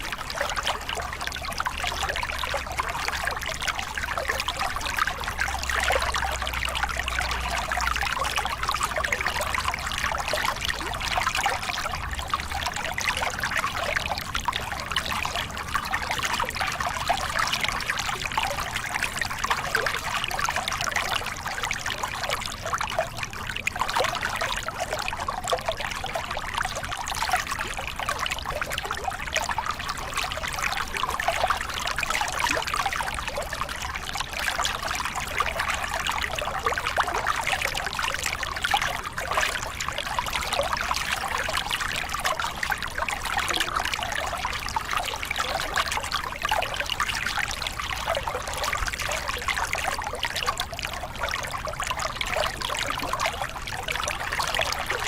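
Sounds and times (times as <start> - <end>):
water splashing over rocks: 0.0 - 55.0.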